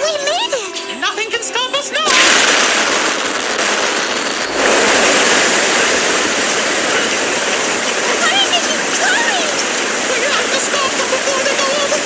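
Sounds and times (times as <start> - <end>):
cartoon waterfall rushing: 2.1 - 12.0.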